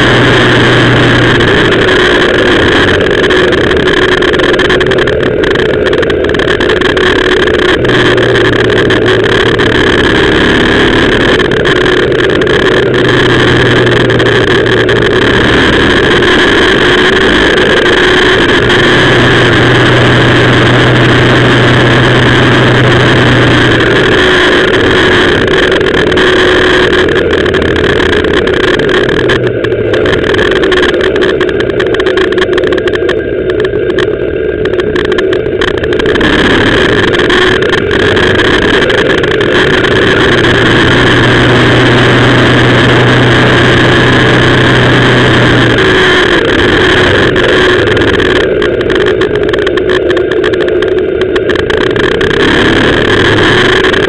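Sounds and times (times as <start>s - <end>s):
motorcycle engine under load: 0.0s - 54.0s
road noise: 0.0s - 54.0s
wind noise: 0.0s - 54.0s.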